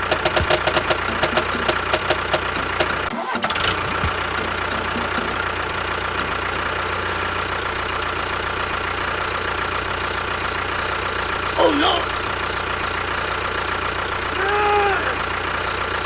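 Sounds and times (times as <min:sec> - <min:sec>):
engine knocking and droning: 0:00.0 - 0:16.0.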